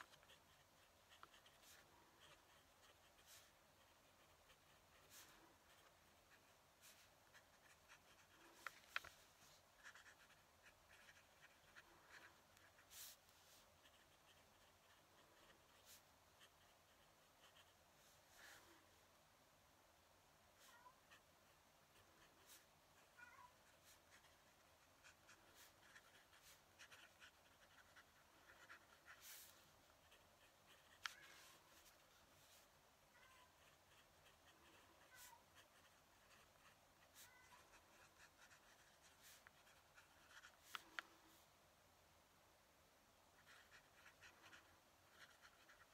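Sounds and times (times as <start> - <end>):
pen nib scratching on paper: 0.0 - 17.8, 21.9 - 32.7, 33.6 - 41.1, 43.4 - 45.9.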